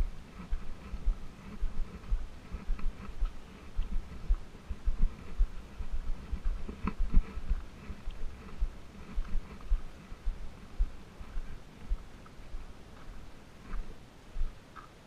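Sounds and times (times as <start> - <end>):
footsteps on dirt road: 0.0 - 15.0.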